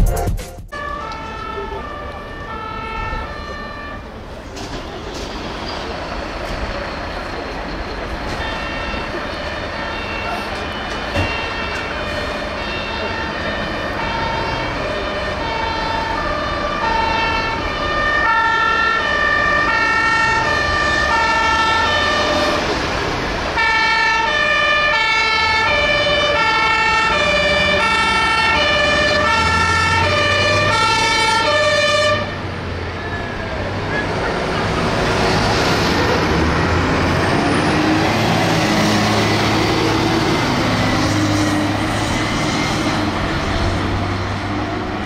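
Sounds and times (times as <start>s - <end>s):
heavy truck engine rumble: 0.0s - 45.0s
two-tone fire engine sirens: 0.7s - 45.0s.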